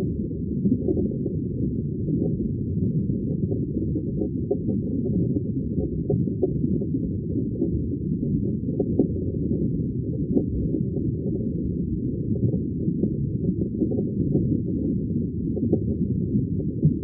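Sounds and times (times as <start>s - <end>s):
muffled aquarium bubbling: 0.0s - 17.0s.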